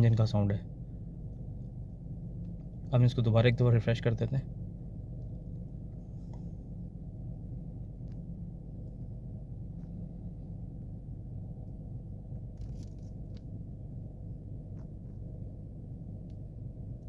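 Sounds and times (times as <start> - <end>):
car engine idling inside cabin: 0.0 - 17.0.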